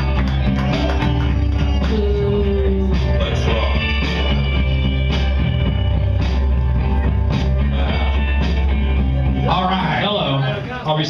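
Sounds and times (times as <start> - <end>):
rock music with guitar and drums: 0.0 - 10.8.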